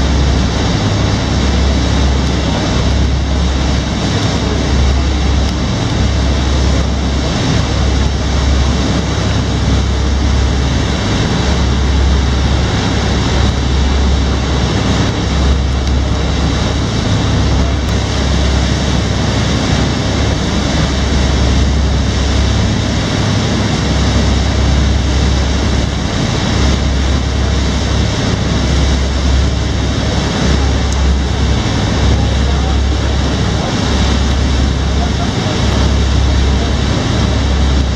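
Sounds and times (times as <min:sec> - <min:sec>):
boat engine drone: 0:00.0 - 0:37.9
water rushing past hull: 0:00.0 - 0:37.9.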